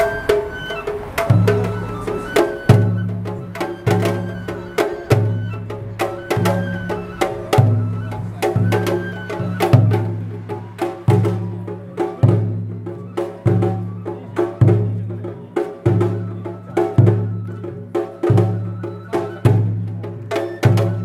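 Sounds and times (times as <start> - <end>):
deep drum beats: 0.0 - 21.0.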